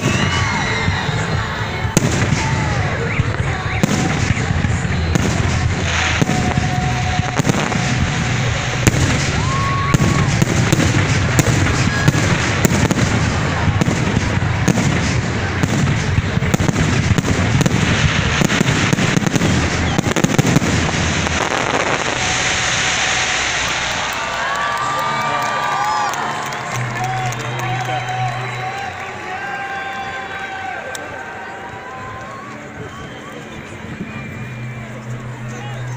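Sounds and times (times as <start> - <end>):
fireworks bangs and crackles: 0.0 - 35.9.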